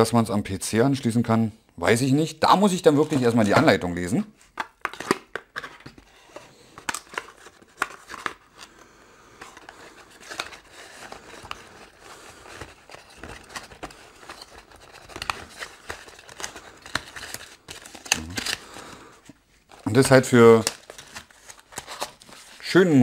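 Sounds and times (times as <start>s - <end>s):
cardboard packaging rustling: 2.6s - 8.8s, 9.4s - 22.9s.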